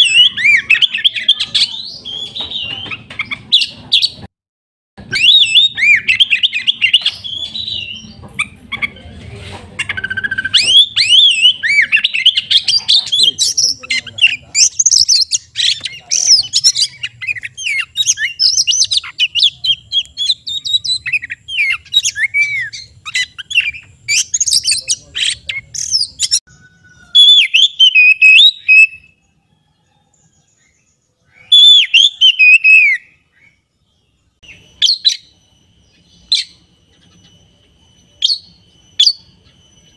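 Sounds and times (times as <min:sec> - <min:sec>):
bird singing whistles and trills: 0:00.0 - 0:04.3, 0:05.0 - 0:09.0, 0:09.8 - 0:39.9.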